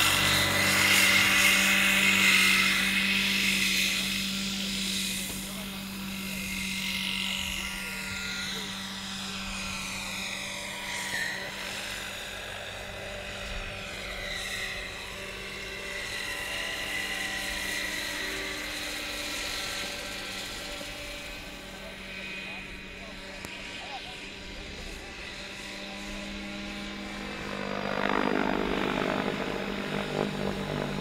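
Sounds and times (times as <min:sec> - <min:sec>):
model helicopter rotor whine: 0:00.0 - 0:31.0.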